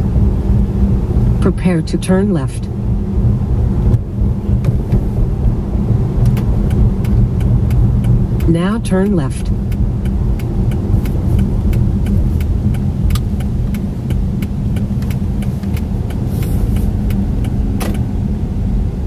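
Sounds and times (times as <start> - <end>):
car engine and road rumble: 0.0 - 19.0
turn signal ticking: 2.0 - 18.8.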